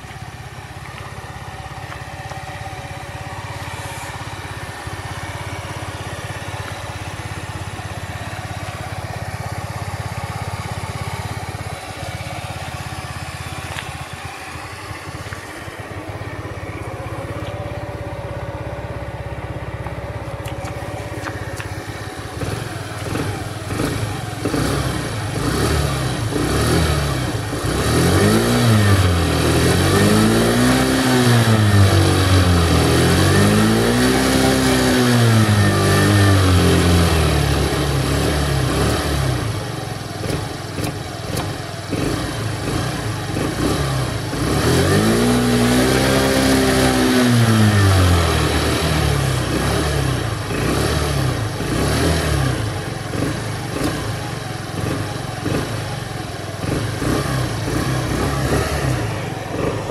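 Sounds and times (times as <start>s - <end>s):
scooter engine revving and idling: 0.0s - 59.9s.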